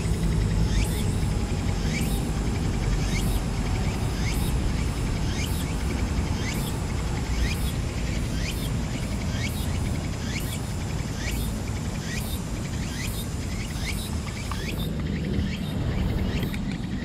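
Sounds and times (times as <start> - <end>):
constant low rumble: 0.0 - 17.0
insect pulsed buzz: 0.0 - 17.0.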